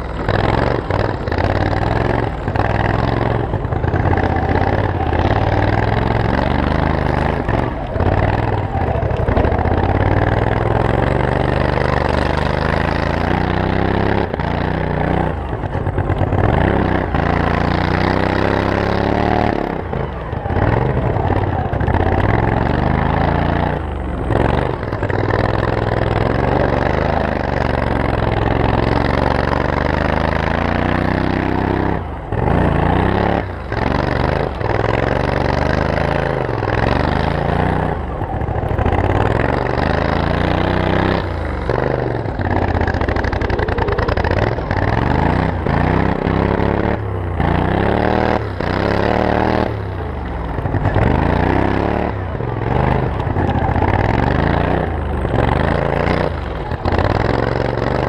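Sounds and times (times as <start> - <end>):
lawn mower engine revving: 0.0 - 58.0.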